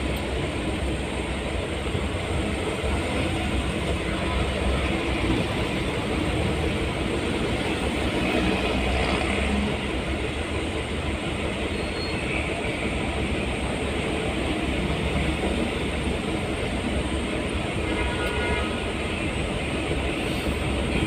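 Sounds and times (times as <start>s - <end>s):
road and wind hiss: 0.0s - 21.0s.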